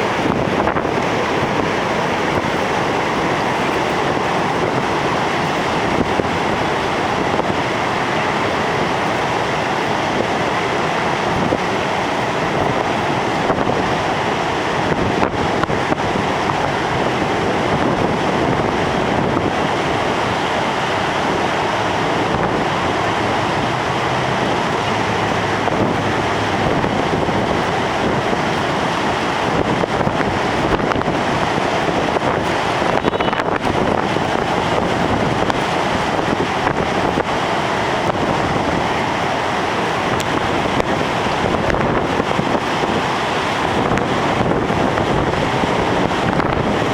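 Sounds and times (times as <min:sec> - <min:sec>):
heavy surf breaking on beach: 0:00.0 - 0:46.9
wind buffeting microphone: 0:00.0 - 0:46.9.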